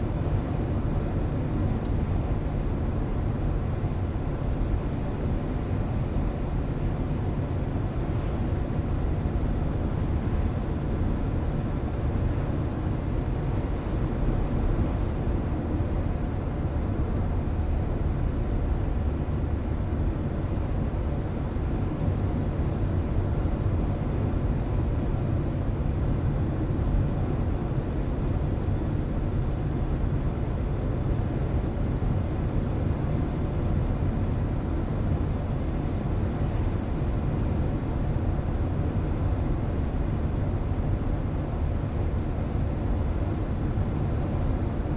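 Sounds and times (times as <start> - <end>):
car interior road and engine noise: 0.0 - 44.9.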